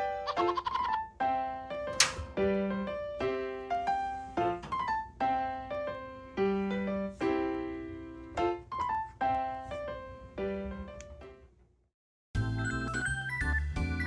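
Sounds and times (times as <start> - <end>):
piano keyboard melody: 0.0 - 11.6, 12.4 - 14.0.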